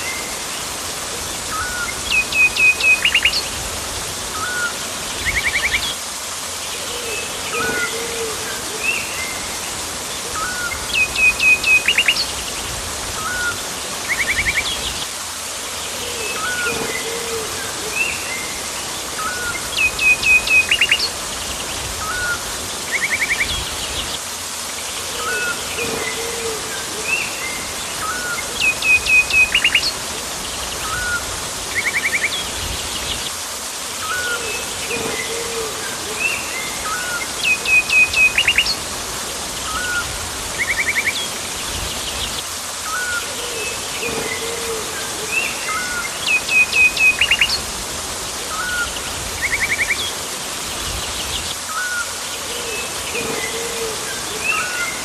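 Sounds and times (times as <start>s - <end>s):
jungle ambience hiss: 0.0s - 55.0s.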